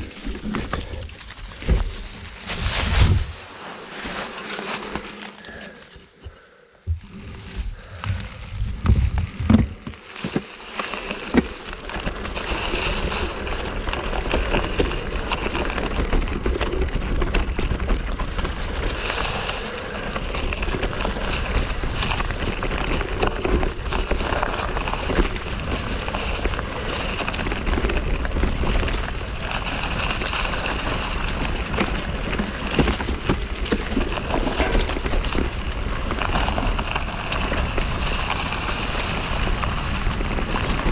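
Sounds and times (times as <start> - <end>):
wind rumble on microphone: 0.0 - 3.5, 6.9 - 10.4, 11.0 - 40.9
bike tyres rustling through dry leaves: 0.0 - 40.9.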